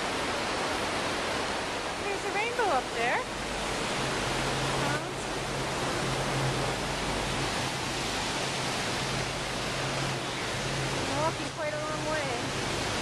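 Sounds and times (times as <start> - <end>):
whitewater river rushing over rocks: 0.0 - 13.0.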